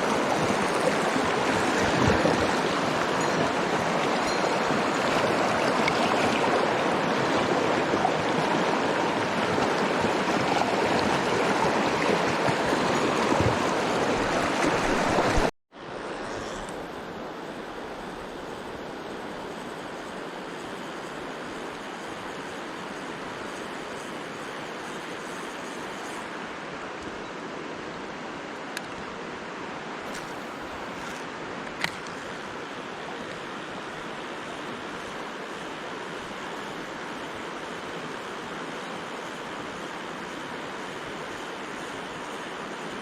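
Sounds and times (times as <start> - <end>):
stream water rushing: 0.0 - 43.0.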